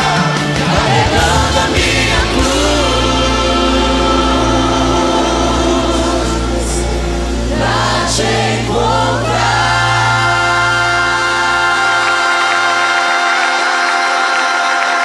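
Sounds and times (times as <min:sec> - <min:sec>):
steady low bass: 0:00.0 - 0:12.6
instrumental backing: 0:00.0 - 0:13.3
gospel choir singing: 0:00.0 - 0:15.0.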